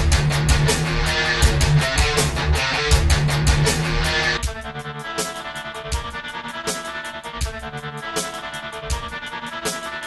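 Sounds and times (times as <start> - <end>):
drum beat: 0.0 - 10.0.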